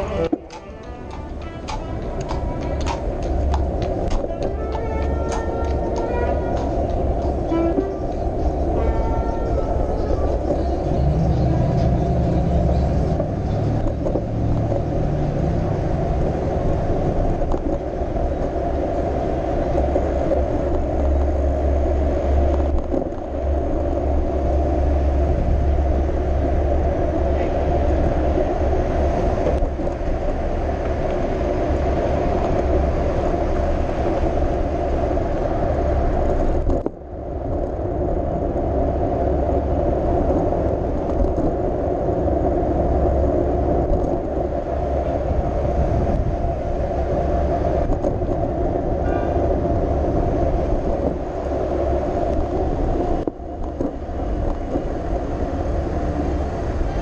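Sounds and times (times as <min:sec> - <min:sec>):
traffic passing: 0:00.0 - 0:57.0
tyre and road noise: 0:00.0 - 0:57.0
wind rumbling on microphone: 0:00.0 - 0:57.0.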